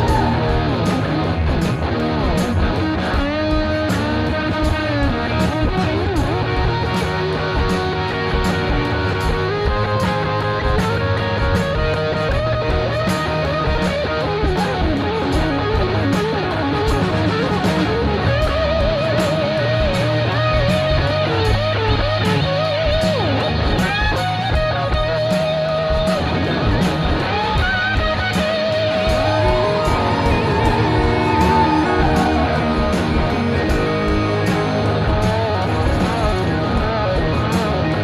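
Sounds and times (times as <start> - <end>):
steady drum beat: 0.0 - 37.9
electric guitar lead line: 0.0 - 38.0.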